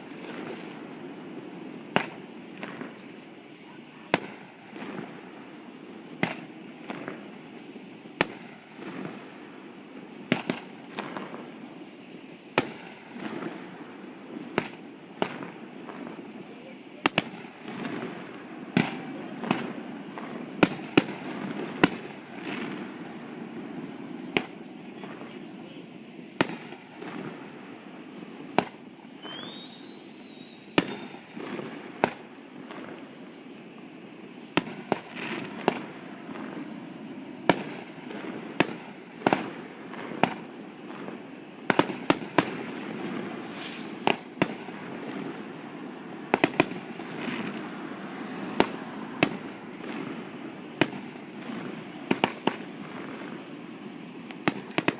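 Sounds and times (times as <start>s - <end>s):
fireworks bangs: 0.0s - 54.9s.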